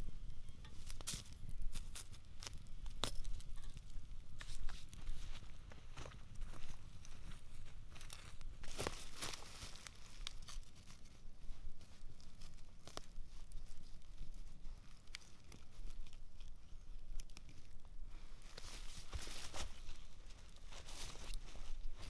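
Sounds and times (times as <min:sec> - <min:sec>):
campfire embers crackling and popping: 0:00.0 - 0:22.0.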